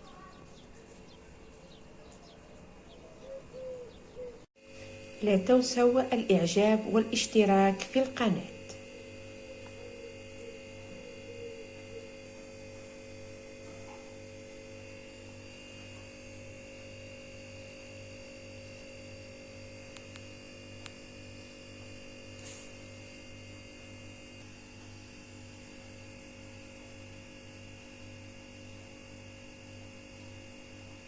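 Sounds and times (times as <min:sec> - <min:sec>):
electrical hum: 0:00.0 - 0:31.0
low pulsing hum: 0:00.0 - 0:31.0.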